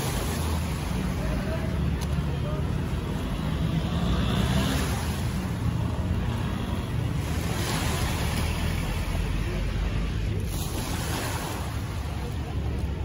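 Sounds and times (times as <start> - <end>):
small waves washing at shore: 0.0 - 13.0.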